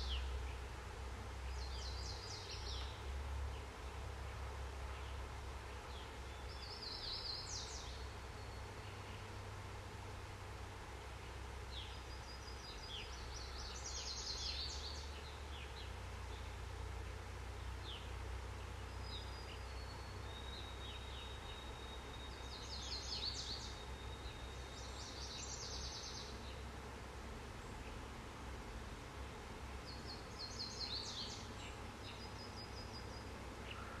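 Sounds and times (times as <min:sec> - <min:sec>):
songbirds singing: 0:00.0 - 0:34.0.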